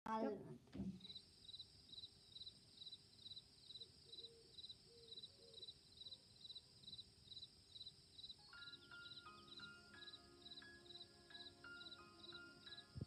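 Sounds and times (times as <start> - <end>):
cricket chirping: 1.0 - 13.0.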